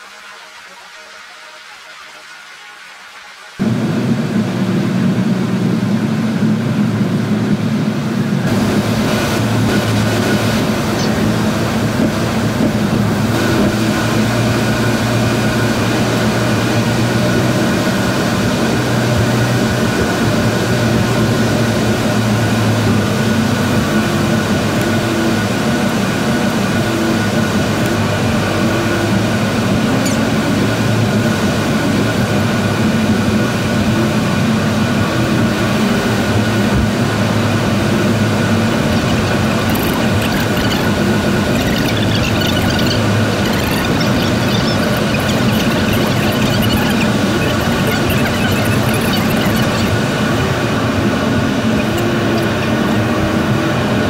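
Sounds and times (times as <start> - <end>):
car road and engine noise: 3.4 - 54.0.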